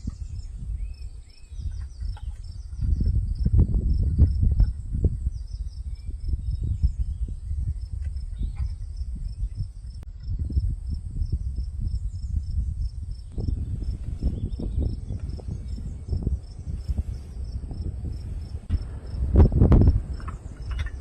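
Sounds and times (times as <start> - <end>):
uneven low rumble: 0.0 - 21.0
insect chirping: 0.1 - 21.0.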